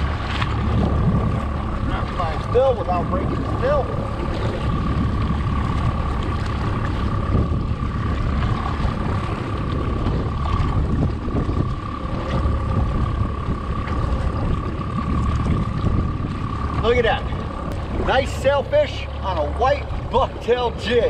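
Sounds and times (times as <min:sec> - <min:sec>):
water sloshing against hull: 0:00.0 - 0:21.0
wind buffeting microphone: 0:00.0 - 0:21.0.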